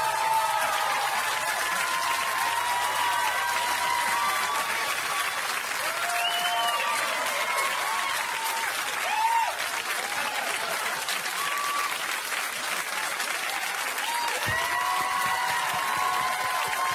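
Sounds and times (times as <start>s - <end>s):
cheers and whoops: 0.0s - 12.3s, 12.9s - 16.9s
audience applauding: 0.0s - 16.9s.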